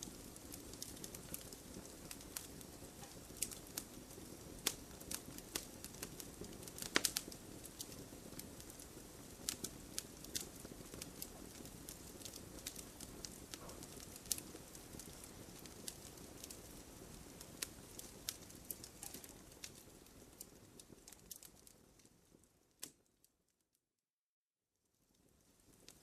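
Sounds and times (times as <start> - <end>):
flames rushing: 0.0 - 21.8
wood fire popping and snapping: 0.0 - 23.1, 25.1 - 26.0.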